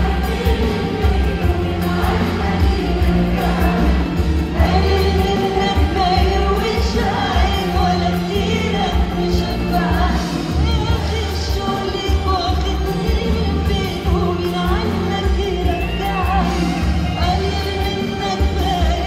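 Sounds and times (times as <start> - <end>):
backing band with bass beat: 0.0 - 19.0
woman singing into microphone: 0.0 - 19.0.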